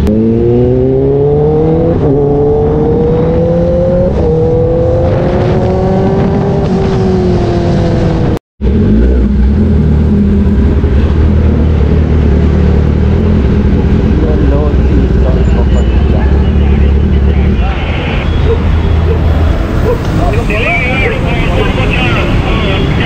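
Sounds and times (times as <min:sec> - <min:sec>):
motorcycle accelerating hard: 0:00.0 - 0:23.0.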